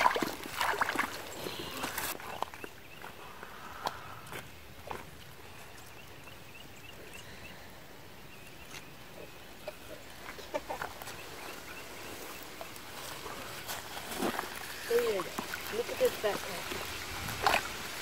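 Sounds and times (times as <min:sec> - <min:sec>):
bird calls and clicks: 0:00.8 - 0:07.6, 0:08.3 - 0:17.7
birds chirping: 0:00.9 - 0:18.0.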